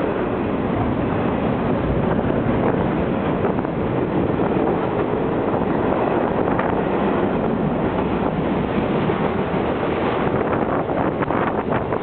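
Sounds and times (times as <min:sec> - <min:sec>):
freight cars rumbling on rails: 0:00.0 - 0:12.0.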